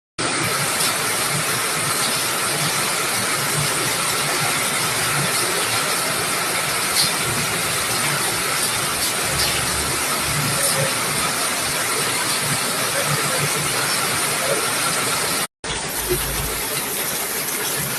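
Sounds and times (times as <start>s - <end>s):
floodwater rushing: 0.2s - 17.9s.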